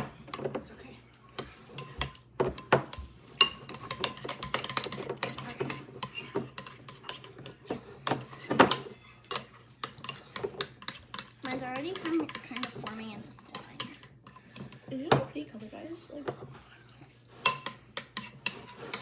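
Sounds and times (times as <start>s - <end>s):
utensils scraping and clinking bowls: 0.0s - 19.0s.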